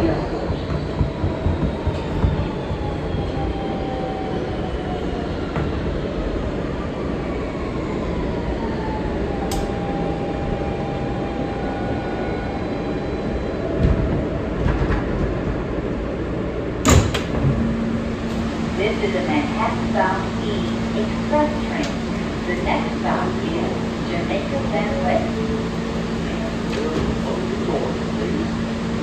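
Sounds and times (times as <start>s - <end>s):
subway train rumbling on rails: 0.0s - 29.0s.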